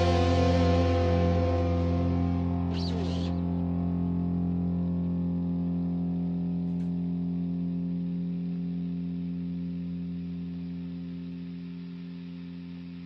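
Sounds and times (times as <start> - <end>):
guitar chord ringing: 0.0 - 11.8.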